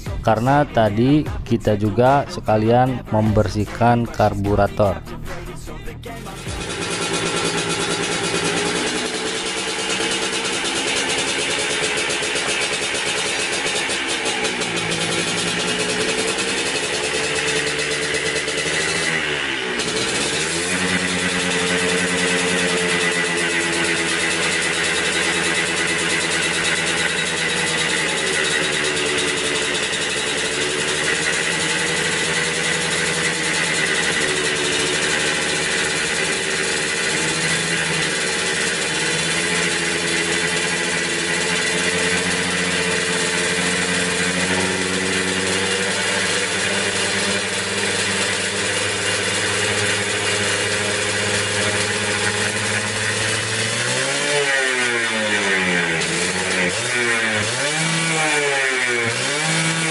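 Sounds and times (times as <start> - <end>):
two-stroke engine idling: 0.0 - 5.0, 6.1 - 59.9.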